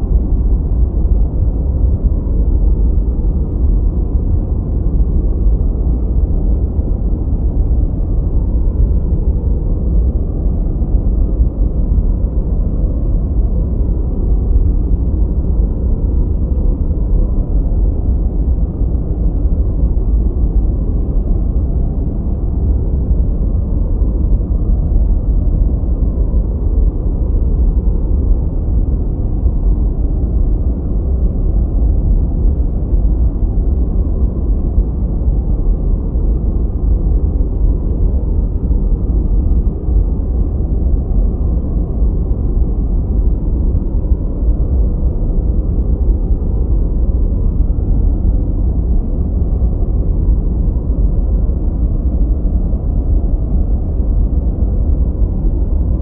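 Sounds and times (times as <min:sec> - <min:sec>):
low rushing rumble noise: 0:00.0 - 0:56.0.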